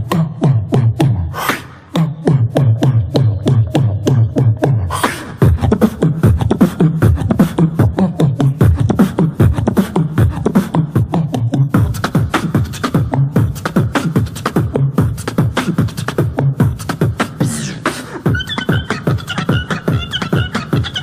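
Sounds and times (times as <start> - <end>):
person beatboxing: 0.0 - 21.0.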